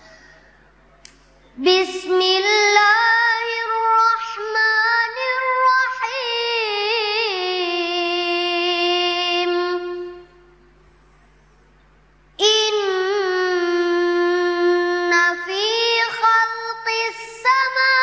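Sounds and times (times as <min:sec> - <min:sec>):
child reciting melodically: 0:01.6 - 0:10.4, 0:12.4 - 0:18.0.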